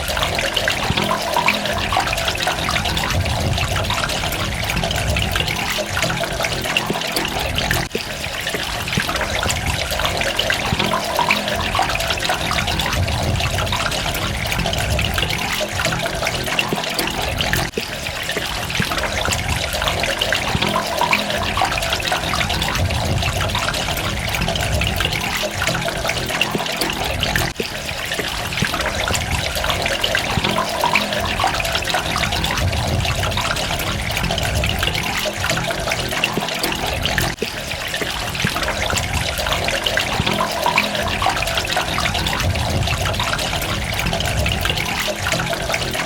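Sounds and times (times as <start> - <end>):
water trickling and splashing: 0.0 - 46.0.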